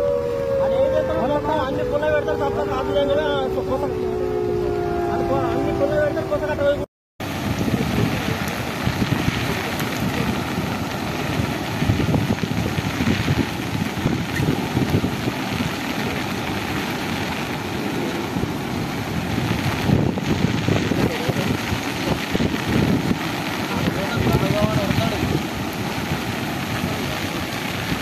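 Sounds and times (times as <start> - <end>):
floodwater rushing: 0.0 - 28.0
heavy rain: 0.0 - 28.0
wind buffeting microphone: 0.0 - 28.0.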